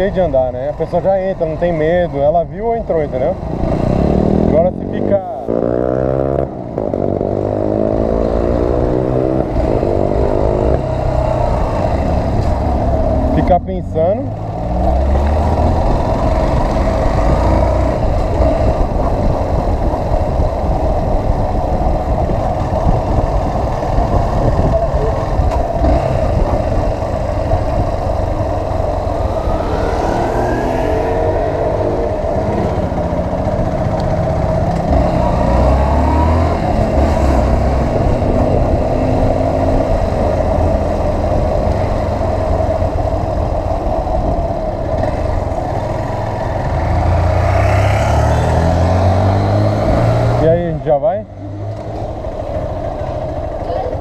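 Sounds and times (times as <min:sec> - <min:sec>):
wind rushing over microphone: 0:00.0 - 0:54.0
motorcycle engine running: 0:00.7 - 0:47.0.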